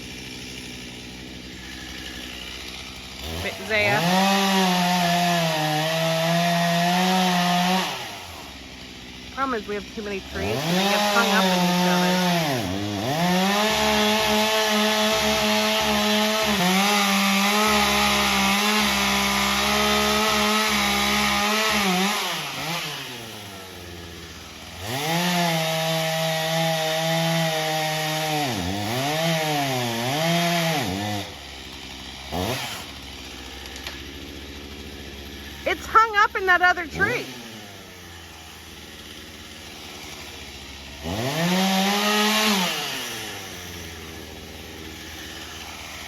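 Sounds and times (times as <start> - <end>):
chainsaw revving and idling: 0.0 - 46.0.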